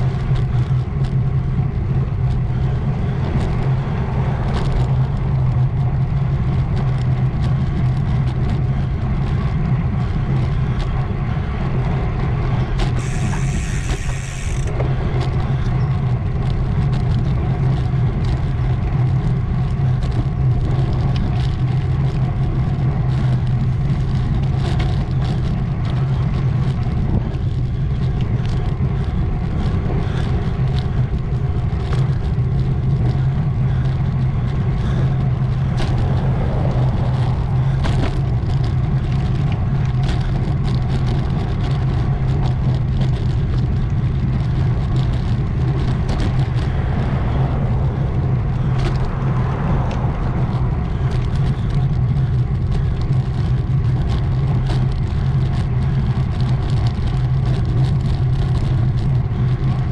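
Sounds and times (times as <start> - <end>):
bike clicks and rattles: 0.0 - 59.9
wind and tyre noise: 0.0 - 59.9.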